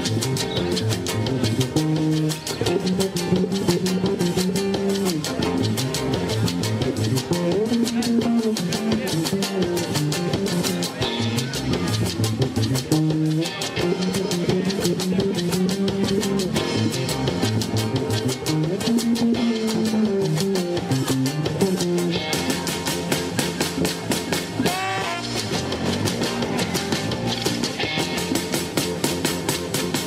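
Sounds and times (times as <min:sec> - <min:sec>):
bass guitar: 0:00.0 - 0:30.0
drum kit beat: 0:00.0 - 0:30.0
electric guitar: 0:00.0 - 0:30.0.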